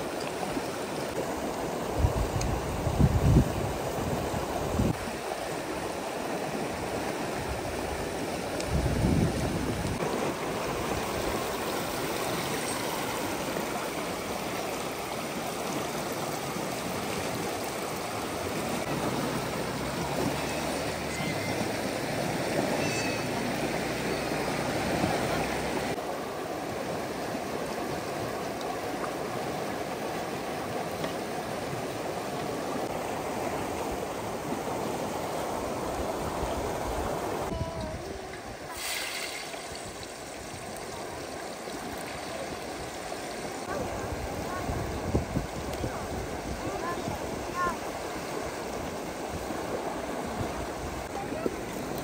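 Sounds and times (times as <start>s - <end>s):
running water rushing: 0.0s - 52.0s.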